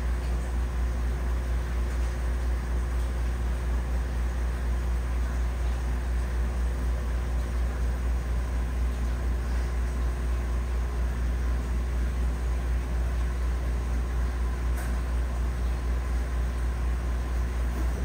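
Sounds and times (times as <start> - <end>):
aquarium equipment humming: 0.0 - 18.0.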